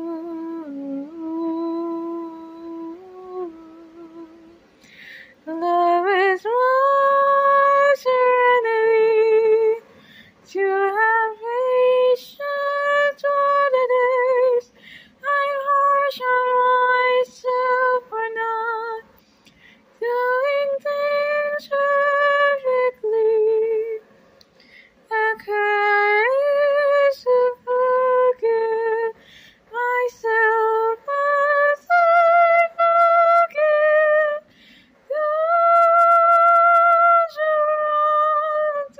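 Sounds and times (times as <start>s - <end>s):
woman singing unaccompanied: 0.0s - 4.7s, 5.4s - 19.2s, 20.0s - 24.0s, 25.0s - 38.9s.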